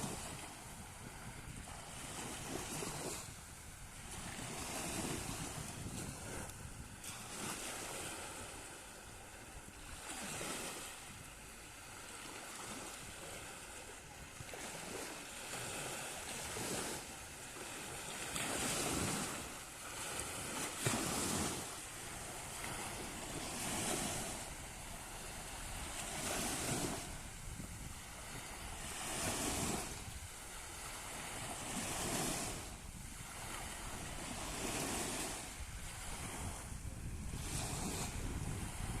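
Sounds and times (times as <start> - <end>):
wind buffeting microphone: 0.0 - 19.4, 20.0 - 39.0
sea waves washing in: 0.0 - 39.0.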